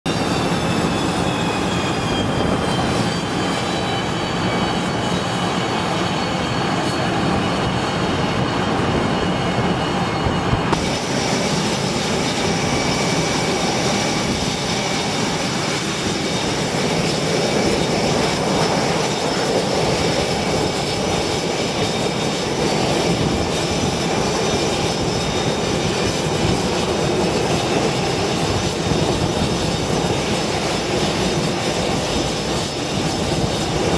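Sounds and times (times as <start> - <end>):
jet engines rumbling and whining: 0.0 - 33.9.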